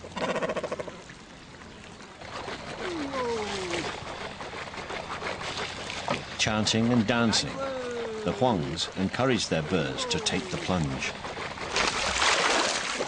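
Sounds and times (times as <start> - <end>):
drawn-out falling calls: 0.0 - 1.1, 2.2 - 11.8
water sloshing and trickling: 0.9 - 13.0.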